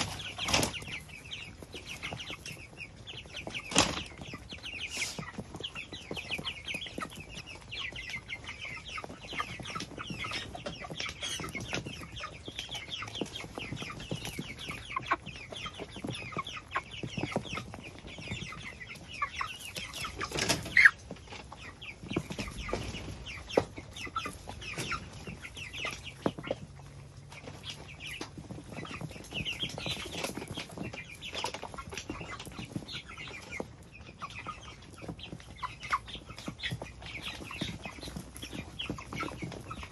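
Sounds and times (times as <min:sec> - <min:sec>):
chickens clucking and chirping: 0:00.0 - 0:39.9.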